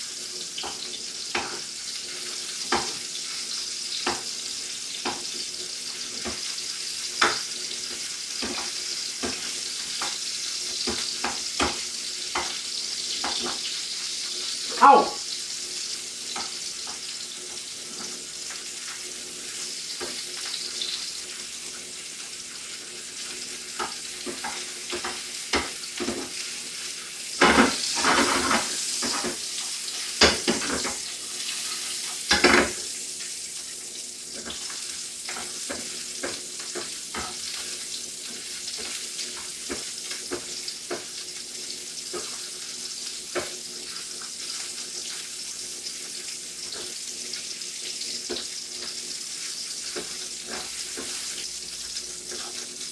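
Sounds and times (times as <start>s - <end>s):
sausages sizzling in oil: 0.0s - 52.9s.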